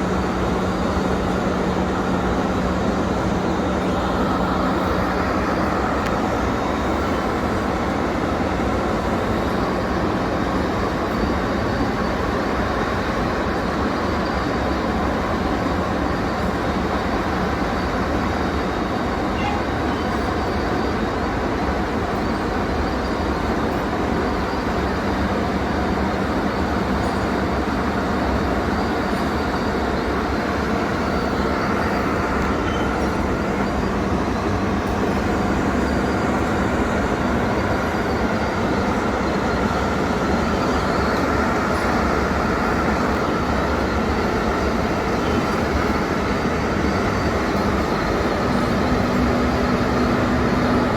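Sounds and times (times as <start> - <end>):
excavator mechanical rumble and clatter: 0.0 - 50.9
faint machine whine: 0.0 - 50.9.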